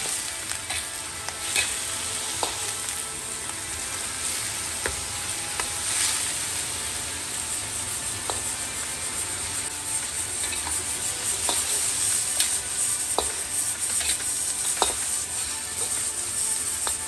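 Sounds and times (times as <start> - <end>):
meat sizzling in a wok: 0.0 - 17.0
metal ladle scraping a wok: 0.0 - 17.0.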